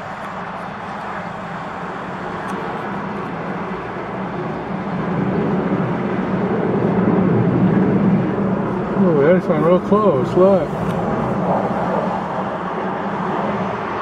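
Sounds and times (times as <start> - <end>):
fighter jet engine rumbling: 0.0 - 14.0.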